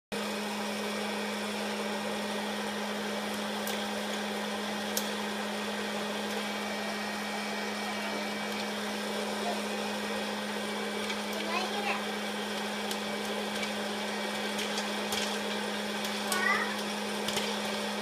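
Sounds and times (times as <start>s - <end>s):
popcorn popper fan humming: 0.2s - 18.0s.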